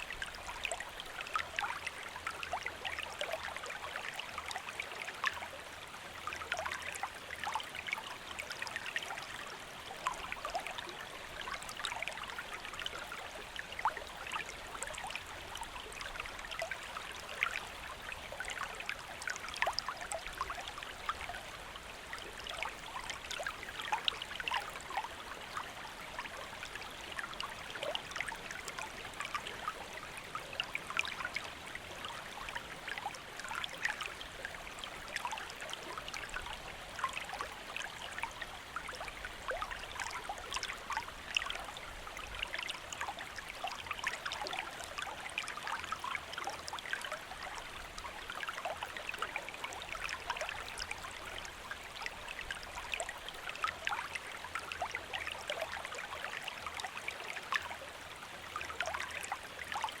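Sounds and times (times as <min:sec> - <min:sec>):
stream babbling: 0:00.0 - 1:00.0.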